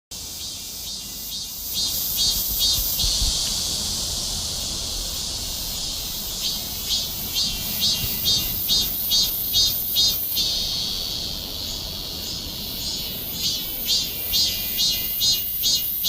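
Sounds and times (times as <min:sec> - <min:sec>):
cicada buzzing: 0:00.1 - 0:16.0.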